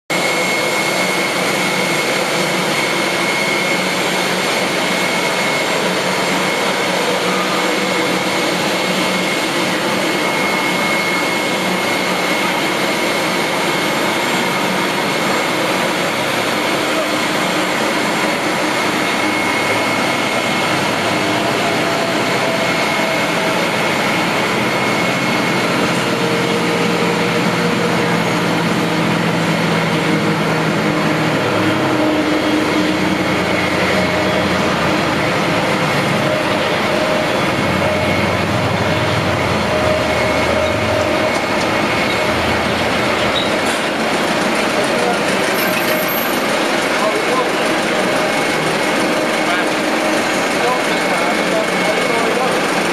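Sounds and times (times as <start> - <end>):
jet engine whine: 0.1 - 52.9
tug engine rumbling: 0.1 - 52.9.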